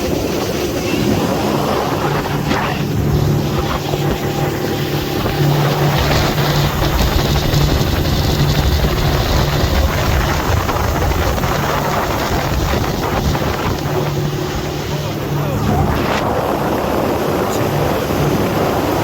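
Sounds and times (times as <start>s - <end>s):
outboard motor running: 0.0s - 19.0s
wind buffeting microphone: 0.0s - 19.0s.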